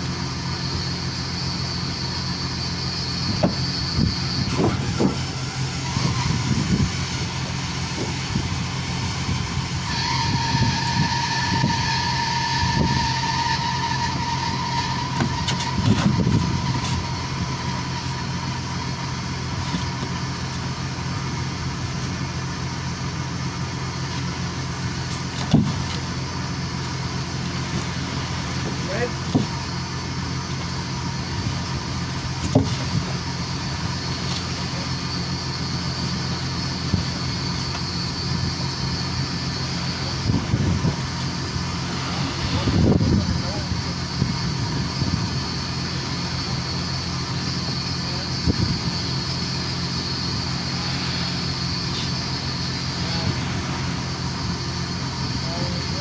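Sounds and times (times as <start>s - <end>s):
boat engine droning: 0.0s - 56.0s
thin whine: 0.0s - 56.0s.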